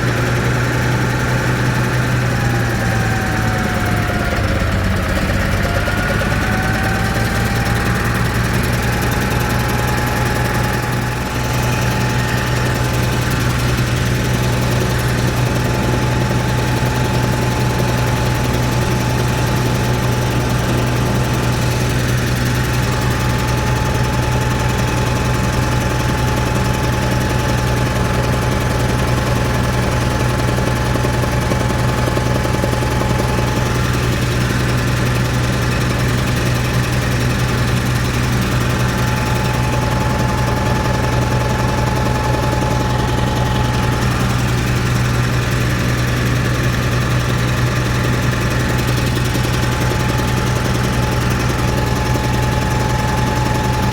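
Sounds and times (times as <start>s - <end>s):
engine running with misfire: 0.0s - 53.9s.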